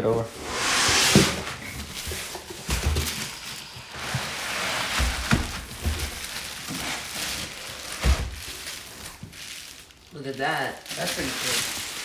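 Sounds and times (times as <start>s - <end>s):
packaging rustling: 0.4s - 12.0s.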